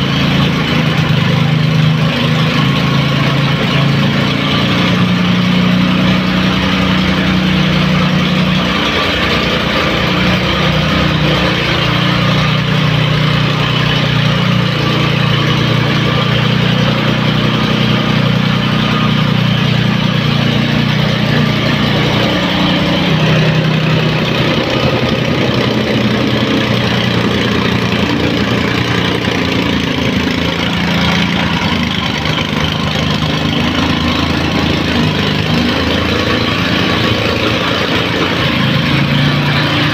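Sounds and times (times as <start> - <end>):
tamping rammer engine pulsing: 0.0 - 39.9.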